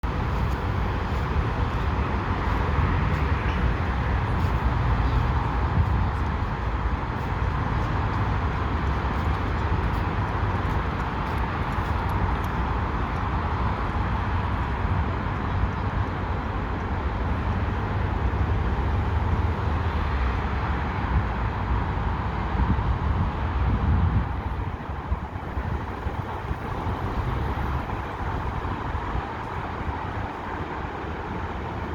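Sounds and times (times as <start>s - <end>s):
bike road noise: 0.0s - 31.9s
wind rushing on microphone: 0.0s - 31.9s.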